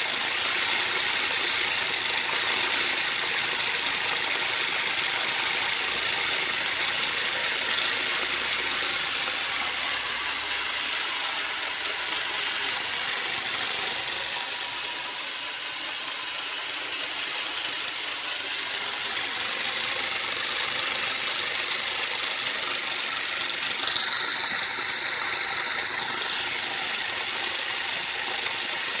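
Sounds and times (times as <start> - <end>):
engine rig whirring: 0.0 - 29.0.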